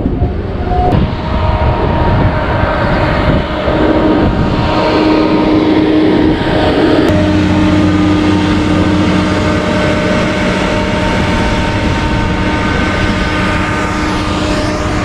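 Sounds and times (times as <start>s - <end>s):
train hum: 0.0s - 15.0s
wind rushing over microphone: 0.0s - 15.0s.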